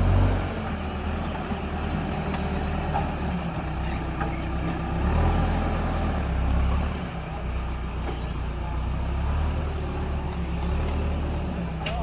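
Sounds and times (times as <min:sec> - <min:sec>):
diesel machinery engine rumbling: 0:00.0 - 0:12.0.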